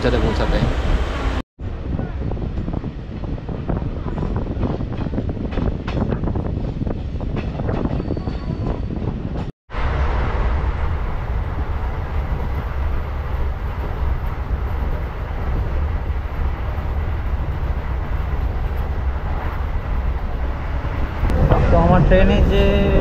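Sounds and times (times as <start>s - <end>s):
train running noise: 0.0s - 23.0s
train wheels rumbling on rails: 0.0s - 23.0s.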